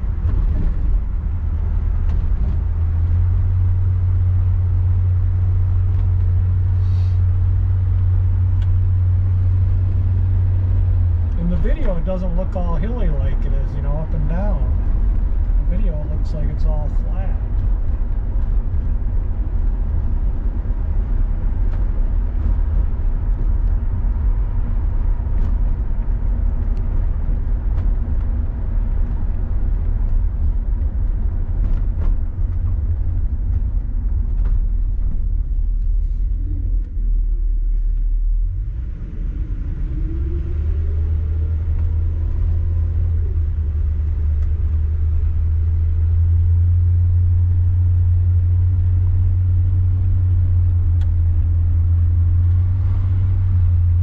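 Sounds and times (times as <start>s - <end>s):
car engine rumble and road noise: 0.0s - 54.0s.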